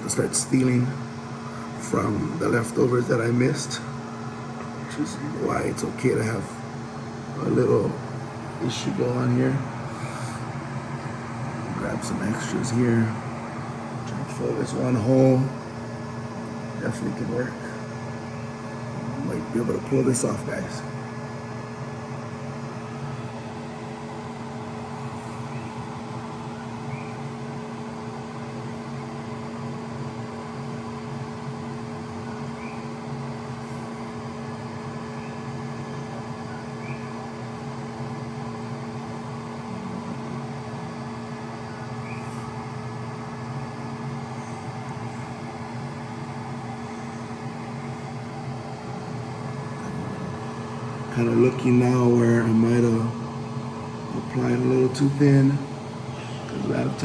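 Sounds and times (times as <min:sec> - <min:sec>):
motor humming: 0:00.0 - 0:57.0.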